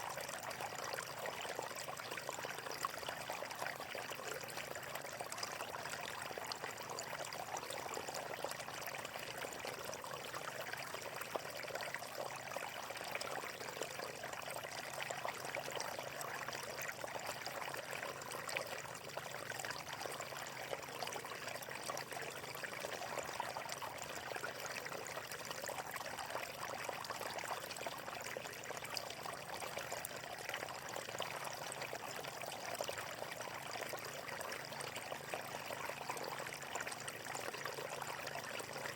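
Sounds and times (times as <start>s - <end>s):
stream of water trickling: 0.0s - 38.9s.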